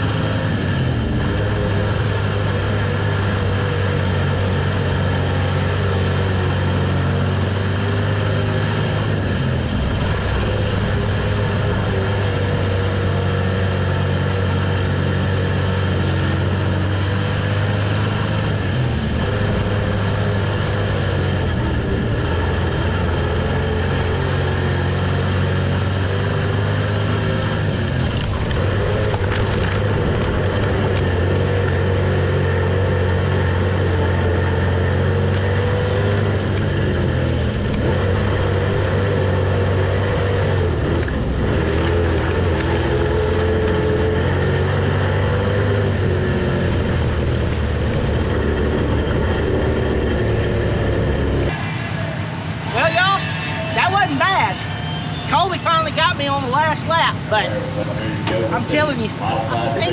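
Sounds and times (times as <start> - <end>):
race car engine droning: 0.0 - 59.9.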